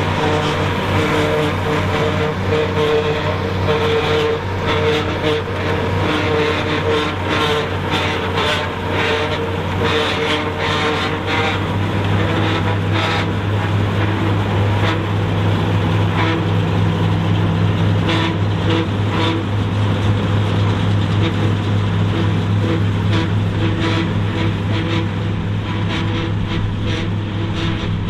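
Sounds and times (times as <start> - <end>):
forage harvester cutter and blower: 0.0 - 28.0
tractor diesel engine droning: 0.0 - 28.0.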